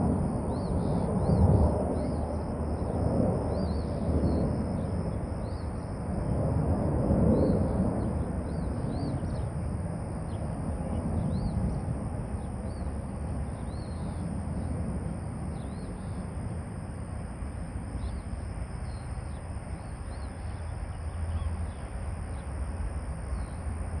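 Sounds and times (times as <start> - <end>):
distant jet rumble: 0.0 - 24.0.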